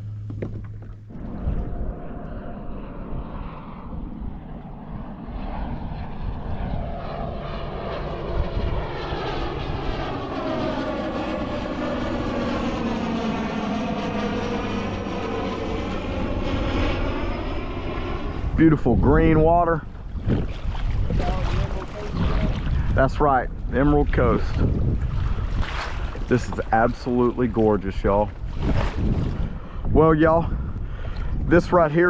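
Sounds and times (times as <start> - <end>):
airplane engine drone: 0.0 - 32.0.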